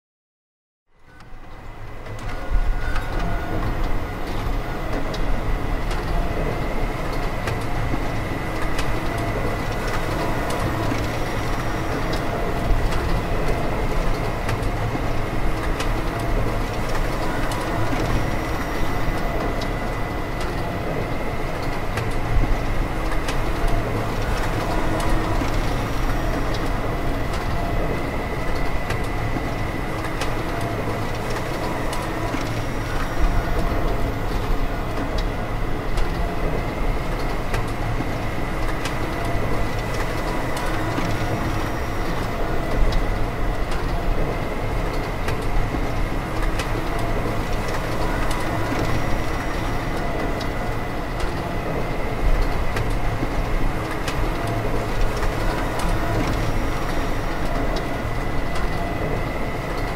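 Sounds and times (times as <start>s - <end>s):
reverberant mechanical rumble: 1.2s - 59.9s.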